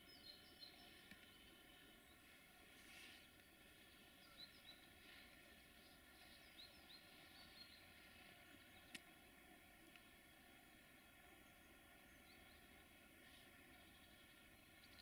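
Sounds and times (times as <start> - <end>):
faint ambient hiss: 0.0 - 15.0.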